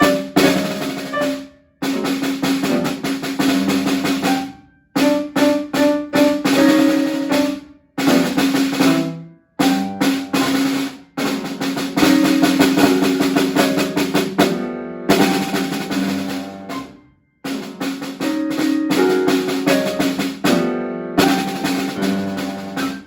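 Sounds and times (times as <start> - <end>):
snare drum rolls: 0.0 - 16.9, 17.5 - 23.0.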